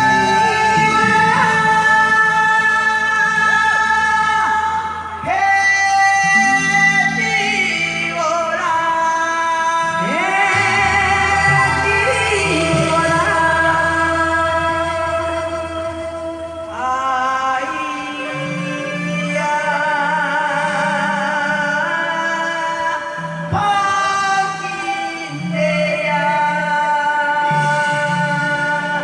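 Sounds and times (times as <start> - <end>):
person singing with vibrato: 0.0 - 29.0.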